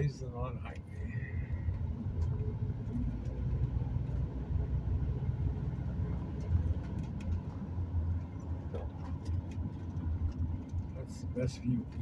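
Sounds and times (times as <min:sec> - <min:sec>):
road and engine noise in vehicle: 0:00.0 - 0:12.0.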